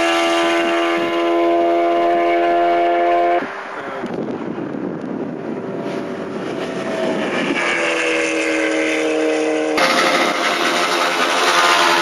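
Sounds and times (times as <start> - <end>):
vehicle engine and traffic noise: 0.0 - 12.0.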